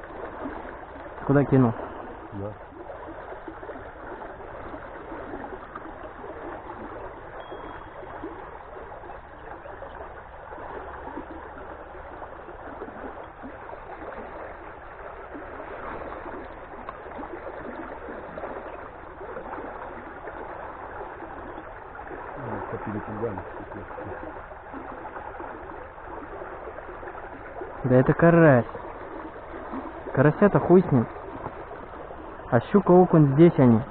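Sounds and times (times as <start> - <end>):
water rushing in stream: 0.0 - 33.9.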